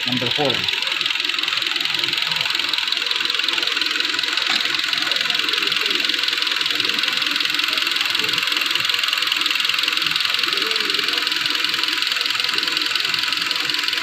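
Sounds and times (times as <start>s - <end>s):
car engine running with ticking: 0.0s - 14.0s.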